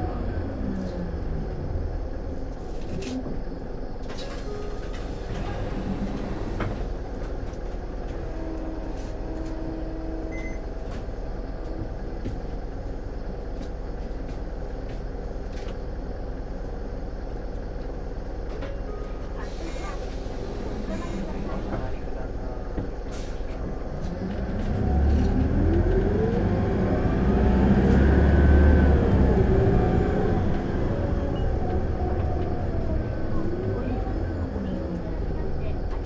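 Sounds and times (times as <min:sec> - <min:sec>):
bus diesel engine rumble: 0:00.0 - 0:36.0.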